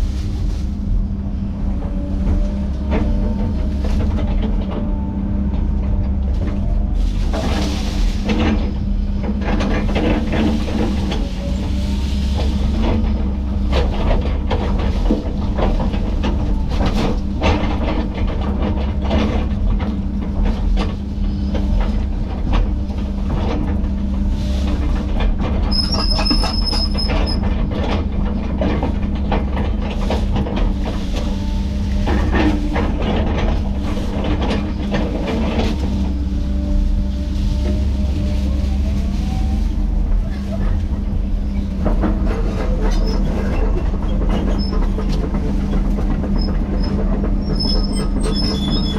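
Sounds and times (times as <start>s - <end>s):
heavy diesel machine running: 0.0s - 48.9s.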